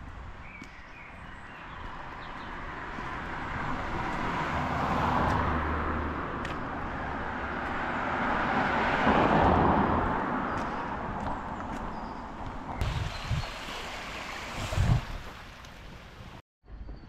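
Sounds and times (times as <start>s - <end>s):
road vehicles passing by: 0.0s - 16.4s.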